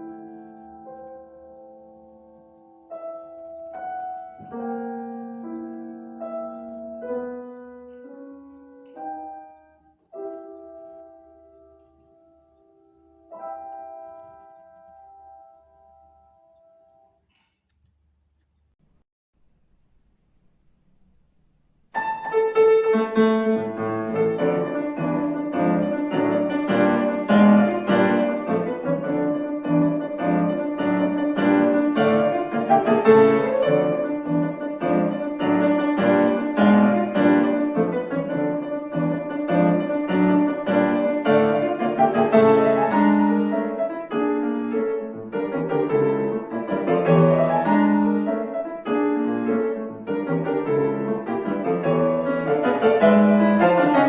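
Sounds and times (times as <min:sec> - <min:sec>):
classical piano piece: 0:00.0 - 0:17.2, 0:21.9 - 0:54.0.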